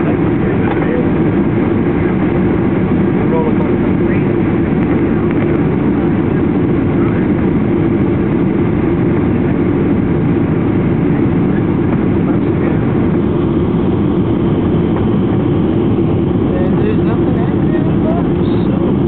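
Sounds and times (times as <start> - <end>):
airplane engine hum: 0.0 - 19.0.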